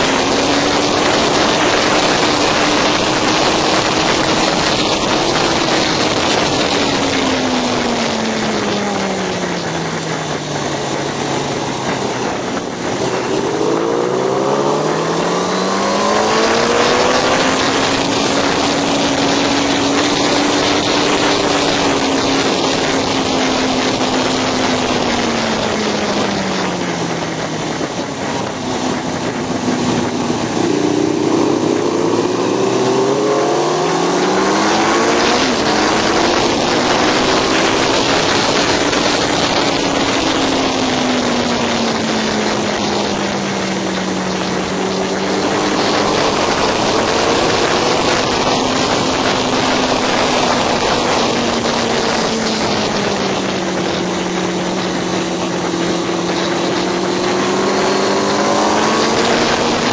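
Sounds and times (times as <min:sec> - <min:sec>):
racing motorcycle engine: 0:00.0 - 0:59.9
wind rush: 0:00.0 - 0:59.9.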